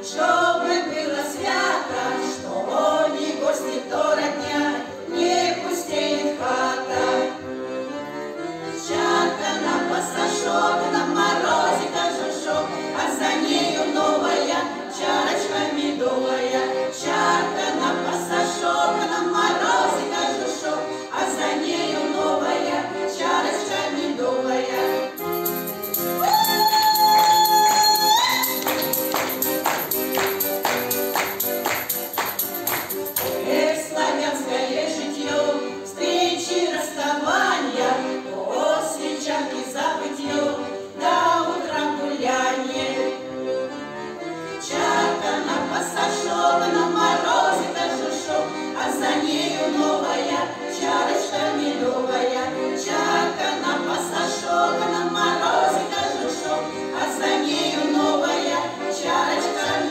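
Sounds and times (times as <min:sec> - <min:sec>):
choir singing: 0:00.0 - 0:59.9
instrumental accompaniment: 0:00.0 - 0:59.9.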